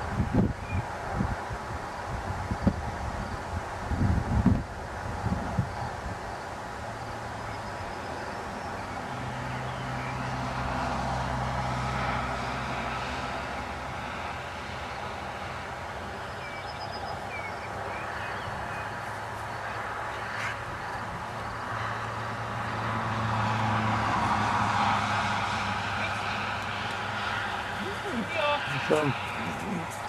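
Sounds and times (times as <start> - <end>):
passing vehicle engine hum: 0.0 - 30.0.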